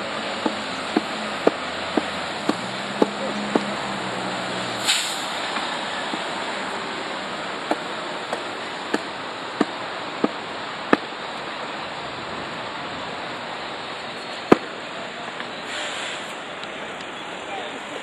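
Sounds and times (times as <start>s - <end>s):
tram rushing along track: 0.0s - 18.0s.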